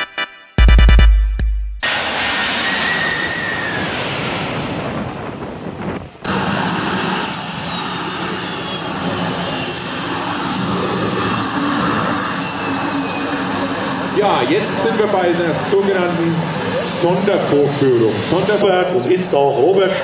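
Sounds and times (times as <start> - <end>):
model jet turbine whine: 1.8 - 18.8
jet airliner roar overhead: 1.8 - 20.0.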